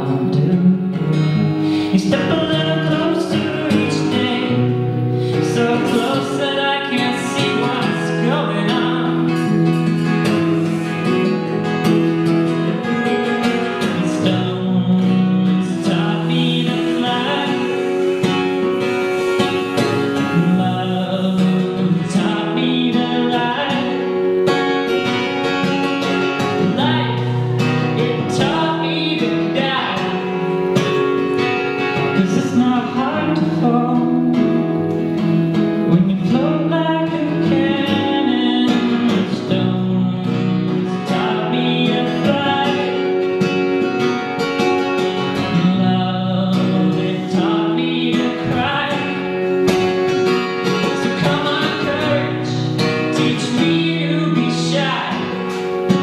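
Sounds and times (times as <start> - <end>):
acoustic guitar: 0.0 - 56.0
man singing: 0.0 - 56.0.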